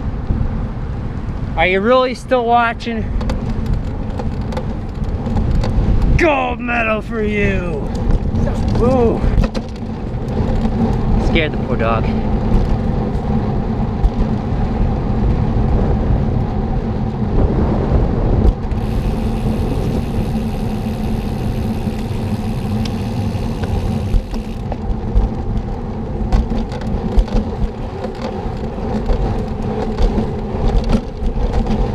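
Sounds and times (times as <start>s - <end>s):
low road rumble: 0.0s - 31.9s.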